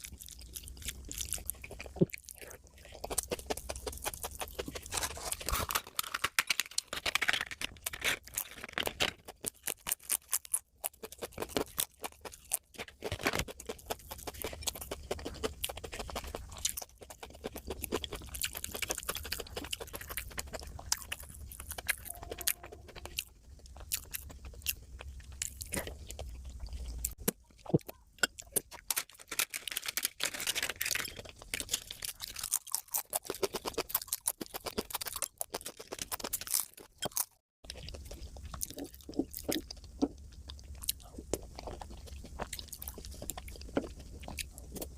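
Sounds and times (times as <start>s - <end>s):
person chewing and mouth sounds: 0.0s - 44.9s.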